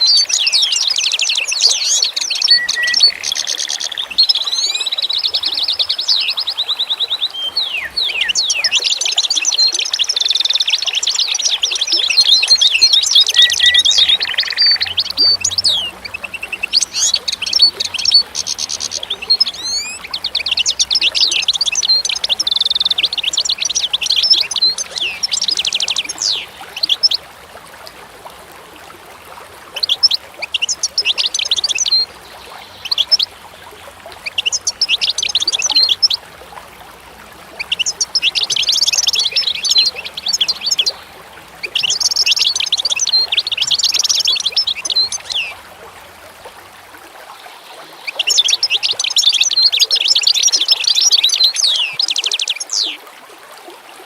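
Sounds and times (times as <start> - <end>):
songbirds twittering: 0.0 - 53.0.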